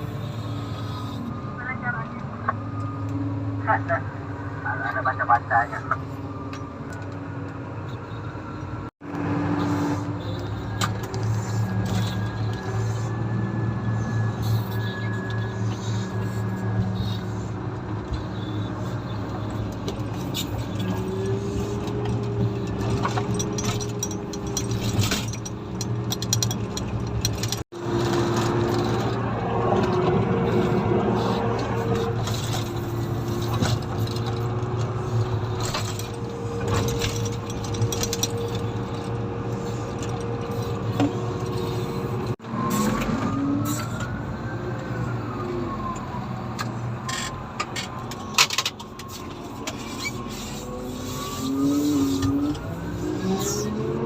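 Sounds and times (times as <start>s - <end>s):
diesel engine running: 0.0s - 44.3s.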